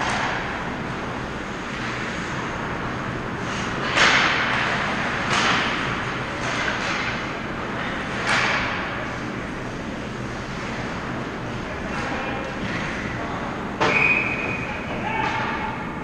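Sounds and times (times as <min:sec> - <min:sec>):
low rink background noise: 0:00.0 - 0:16.0.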